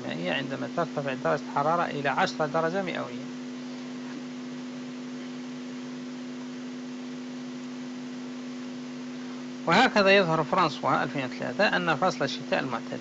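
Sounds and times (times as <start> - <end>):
constant hiss: 0.0 - 13.0
electrical hum: 0.0 - 13.0.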